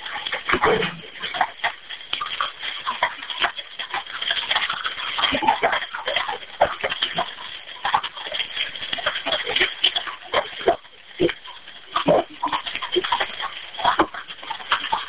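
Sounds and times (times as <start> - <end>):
fire crackling and knocking: 0.0 - 15.0.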